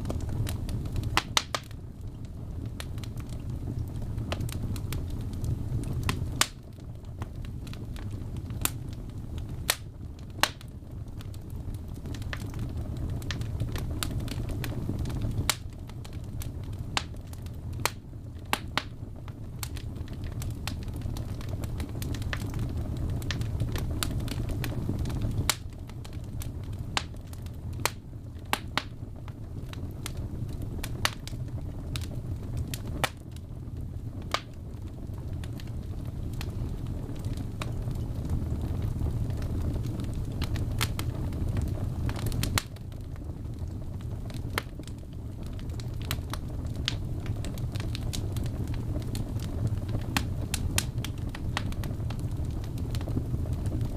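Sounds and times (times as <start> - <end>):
fire crackling and popping: 0.0 - 53.9
flames rumbling in fireplace: 0.0 - 53.9.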